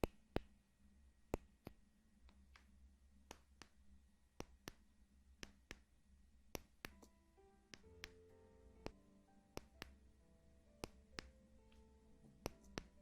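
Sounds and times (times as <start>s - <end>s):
soft clicks: 1.3s - 10.1s, 10.7s - 13.0s.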